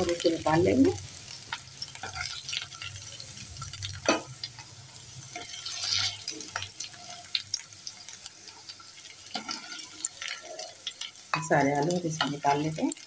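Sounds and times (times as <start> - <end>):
faint oil sizzling: 0.0 - 13.0.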